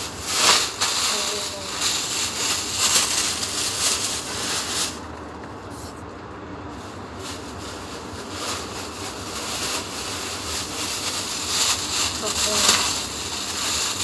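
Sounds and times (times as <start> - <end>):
plastic bags rustling: 0.0 - 5.8, 6.7 - 14.0
steady low hum: 0.0 - 14.0.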